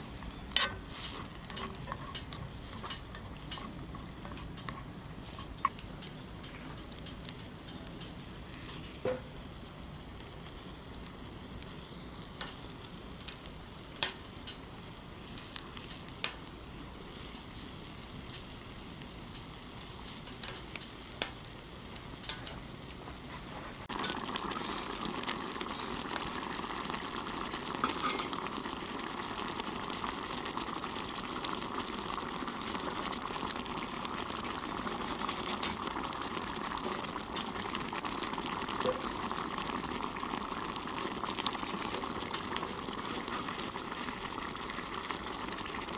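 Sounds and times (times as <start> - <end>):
meat sizzling in a pan: 0.0 - 22.7, 23.8 - 45.9
pan bubbling: 0.0 - 45.9.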